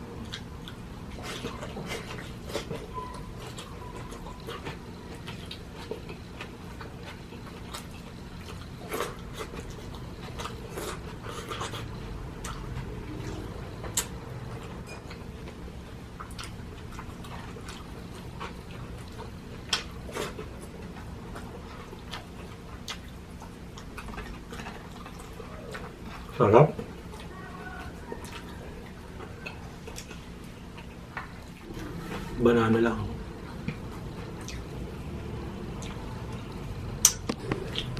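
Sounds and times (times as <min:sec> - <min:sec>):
person chewing food: 0:00.0 - 0:32.4, 0:33.2 - 0:37.9
steady low hum: 0:00.0 - 0:37.9.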